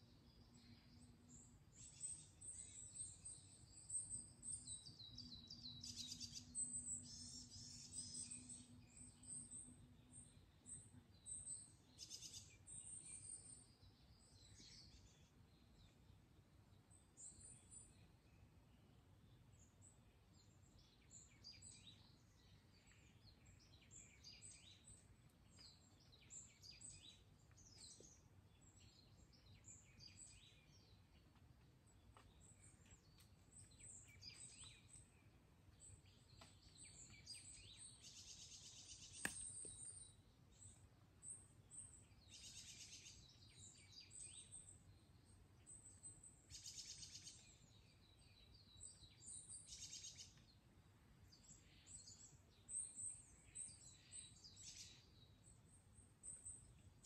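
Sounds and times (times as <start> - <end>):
woodland birds chirping: 0.0 - 57.0.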